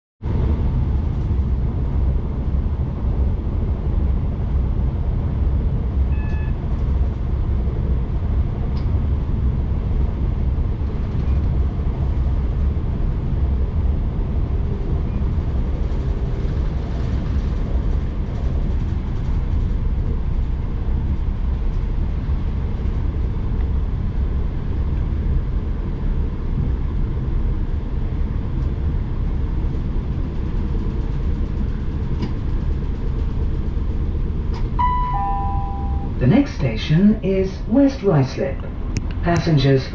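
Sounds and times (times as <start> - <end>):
train wheels and engine rumble: 0.3 - 39.9.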